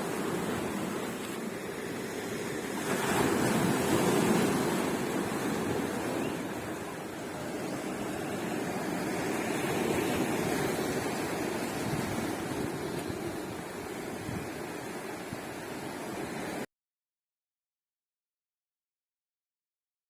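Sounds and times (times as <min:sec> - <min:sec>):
sea waves breaking on beach: 0:00.0 - 0:16.7.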